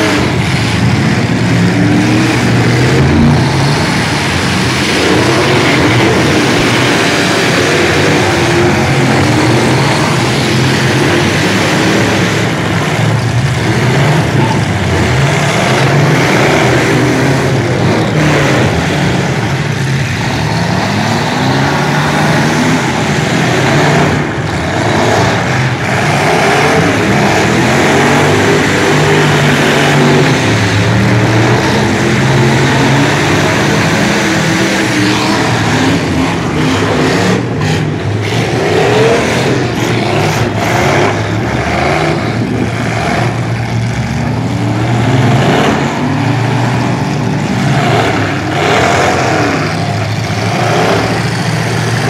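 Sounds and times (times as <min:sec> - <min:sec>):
truck engines revving hard: 0:00.0 - 0:52.0
trucks ramming thuds: 0:00.0 - 0:52.0.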